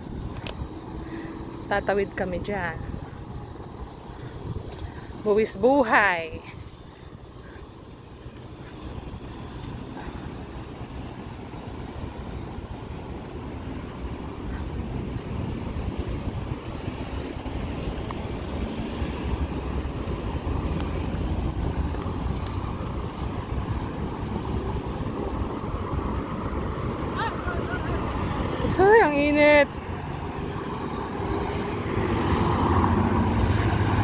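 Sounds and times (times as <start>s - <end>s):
highway traffic rushing past: 0.0s - 34.0s
wind rumbling on microphone: 0.0s - 34.0s.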